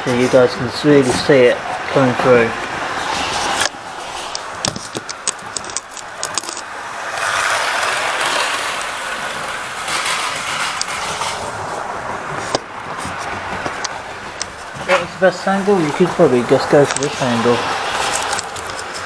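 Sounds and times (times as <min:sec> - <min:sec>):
model train rolling: 0:00.0 - 0:19.0
train wheel clicks: 0:00.0 - 0:19.0.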